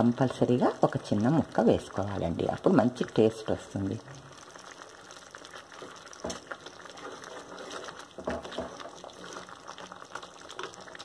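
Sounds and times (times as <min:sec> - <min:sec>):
gravy bubbling in a pan: 0:00.0 - 0:11.0.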